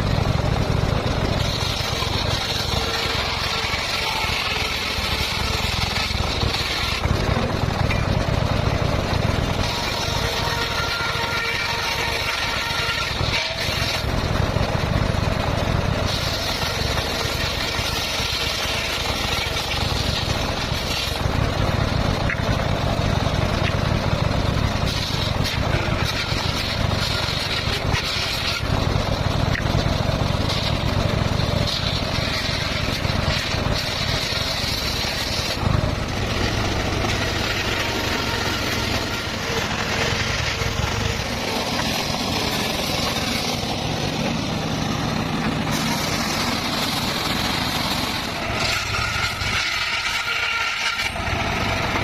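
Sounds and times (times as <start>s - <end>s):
circular saw cutting: 0.0s - 52.0s.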